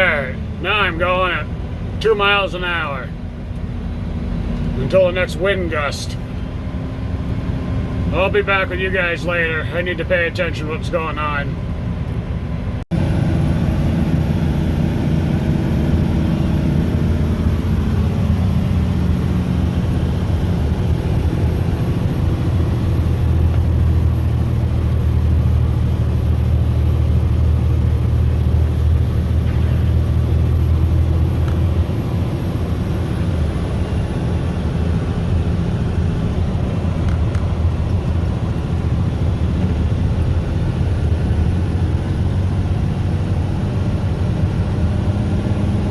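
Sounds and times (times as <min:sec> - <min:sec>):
truck diesel engine drone: 0:00.0 - 0:45.9.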